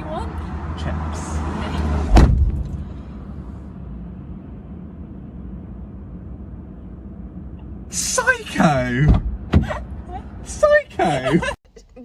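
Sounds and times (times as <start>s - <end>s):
car idling: 2.1s - 12.0s.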